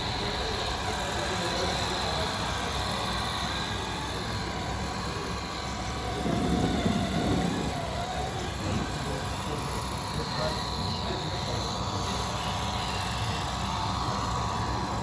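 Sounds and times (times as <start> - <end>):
model vehicles running: 0.0 - 15.0.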